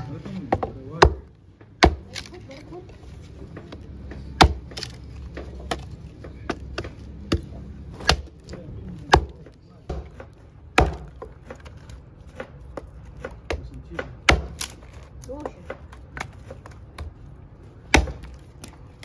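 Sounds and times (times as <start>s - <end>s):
hatchet chopping wood: 0.2s - 2.6s, 3.4s - 17.2s, 17.8s - 19.0s.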